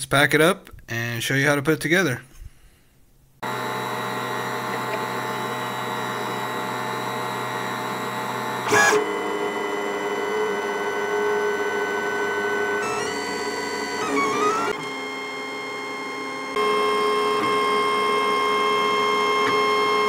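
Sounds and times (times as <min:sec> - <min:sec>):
stepper motors whining: 0:03.4 - 0:20.0.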